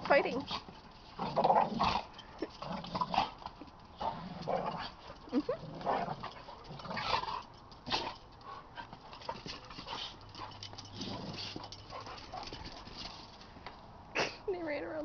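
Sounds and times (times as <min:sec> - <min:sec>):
dogs scuffling: 0:00.0 - 0:13.9
dogs vocalizing while play-fighting: 0:00.2 - 0:13.5.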